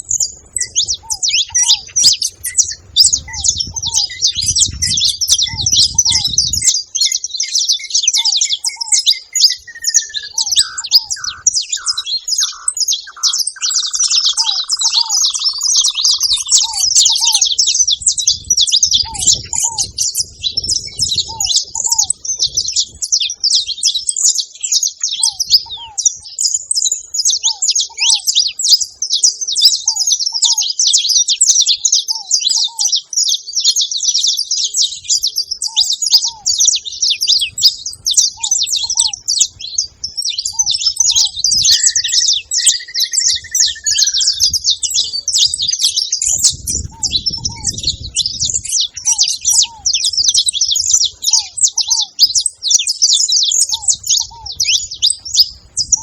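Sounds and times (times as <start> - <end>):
finches chattering: 0.0 - 56.0.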